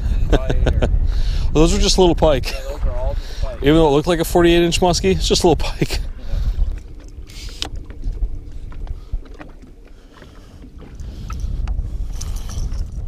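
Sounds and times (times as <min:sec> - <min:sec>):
wind buffeting microphone: 0:00.0 - 0:13.0
water lapping at boat hull: 0:01.0 - 0:13.0.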